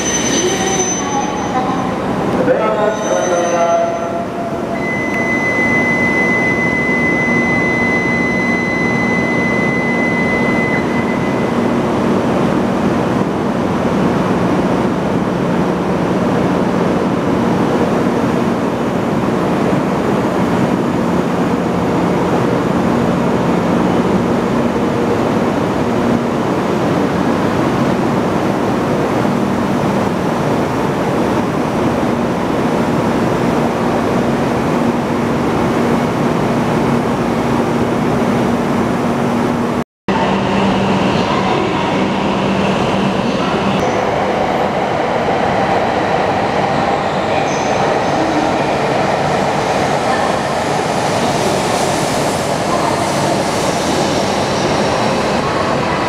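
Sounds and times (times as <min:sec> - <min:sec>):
train rumbling and rushing past: 0:05.7 - 0:56.0.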